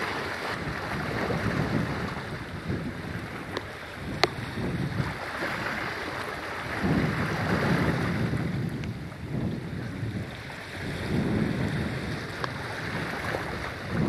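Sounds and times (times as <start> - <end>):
ocean surf washing in: 0.0 - 14.0
wind buffeting microphone: 0.0 - 14.0.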